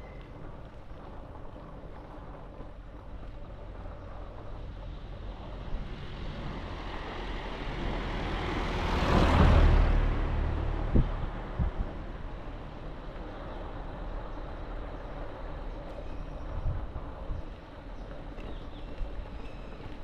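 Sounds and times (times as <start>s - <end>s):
motor vehicle rumble with hiss: 0.0s - 20.0s.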